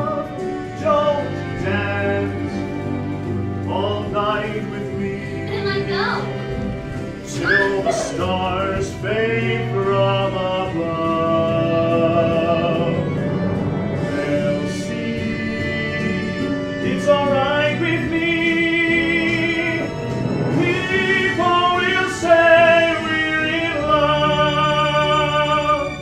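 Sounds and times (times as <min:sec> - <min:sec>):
man singing a show tune: 0:00.0 - 0:03.0, 0:03.6 - 0:06.0, 0:07.1 - 0:13.2, 0:14.0 - 0:26.0
instrumental accompaniment: 0:00.0 - 0:26.0.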